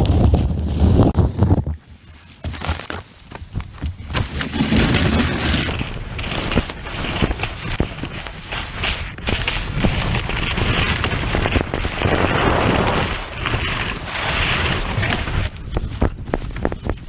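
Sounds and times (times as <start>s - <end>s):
wind on microphone: 0.0s - 17.0s
skis clicking on grass and dirt: 1.2s - 17.0s
skis scraping over snow: 1.3s - 17.0s.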